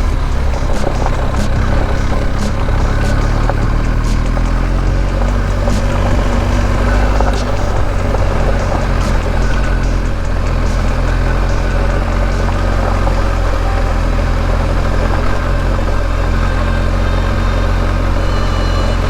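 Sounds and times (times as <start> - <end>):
motorcycle engine running: 0.0 - 19.0
rushing noise: 0.0 - 19.0.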